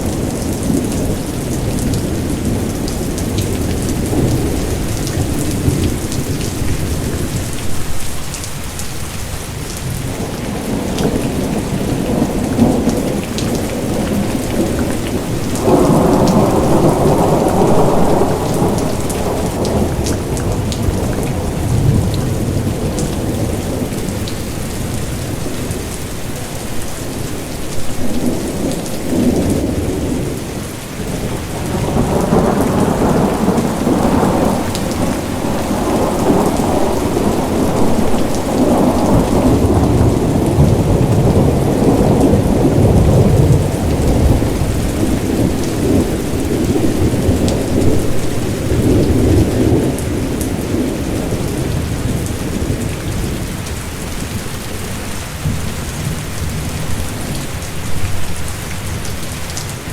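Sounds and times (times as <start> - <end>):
rolling thunder rumbling: 0.0 - 59.1
heavy rain: 0.0 - 59.9.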